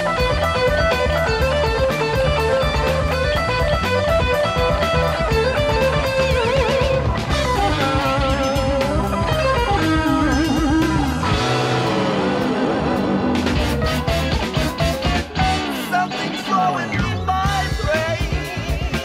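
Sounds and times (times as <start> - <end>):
bass notes: 0.0 - 19.0
electric guitar rock lead: 0.0 - 19.0.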